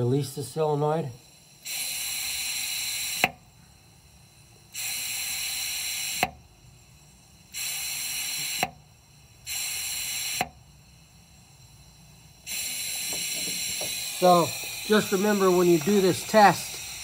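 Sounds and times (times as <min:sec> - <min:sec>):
air hissing out of valve: 0:00.0 - 0:17.0.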